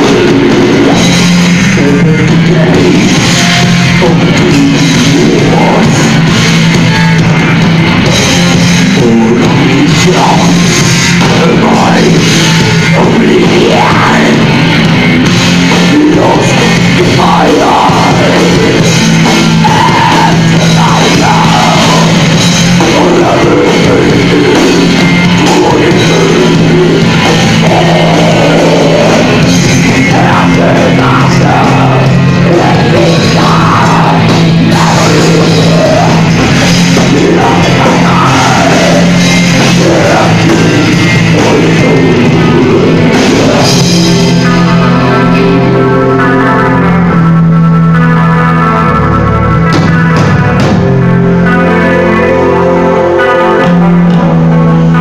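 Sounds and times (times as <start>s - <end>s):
distorted guitar and bass: 0.0s - 55.0s
drum kit: 0.0s - 55.0s.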